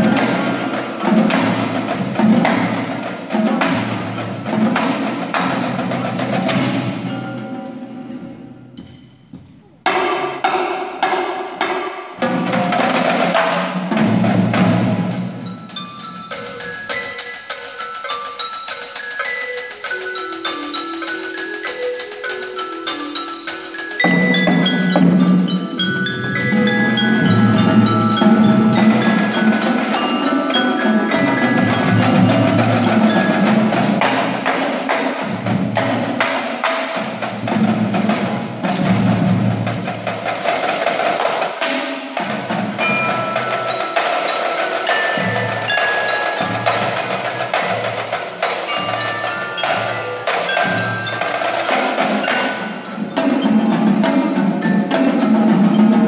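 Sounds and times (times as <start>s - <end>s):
snare tenor and bass drums: 0.0s - 7.2s, 9.8s - 16.6s, 22.3s - 56.0s
marimbas and xylophones: 0.0s - 56.0s.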